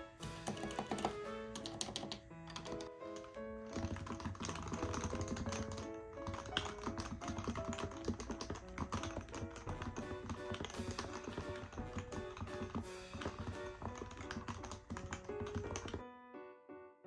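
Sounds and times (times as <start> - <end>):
background music: 0.0 - 17.0
rapid keyboard typing: 0.3 - 16.0.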